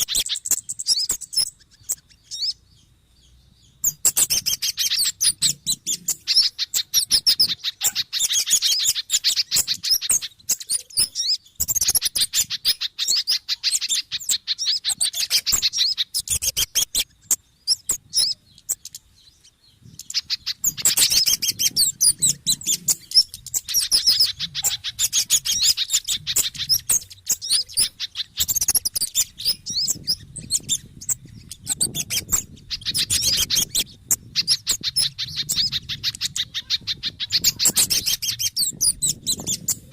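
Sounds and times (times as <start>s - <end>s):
small birds chattering calls: 0.0s - 39.9s.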